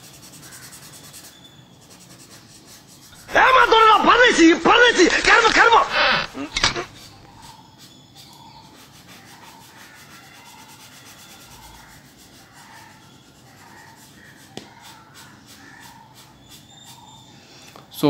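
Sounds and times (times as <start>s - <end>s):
soft rubbing on paper: 0.0s - 17.3s.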